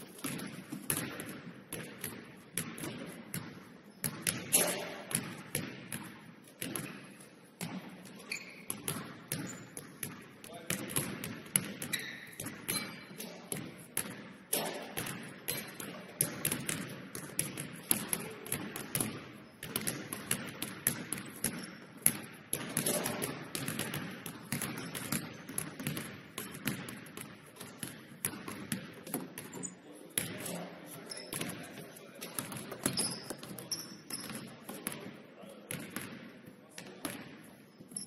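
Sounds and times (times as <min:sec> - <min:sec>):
basketballs bouncing on hardwood floor: 0:00.1 - 0:38.0.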